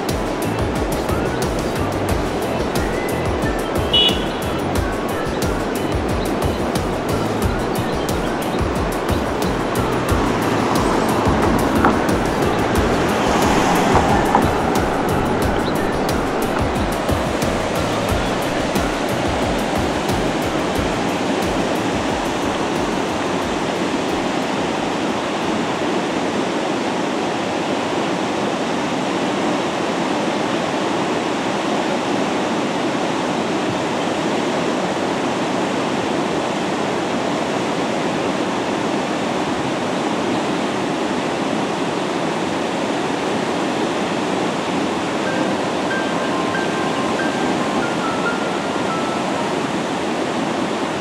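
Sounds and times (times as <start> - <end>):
river water rushing over dam: 0.0 - 51.0.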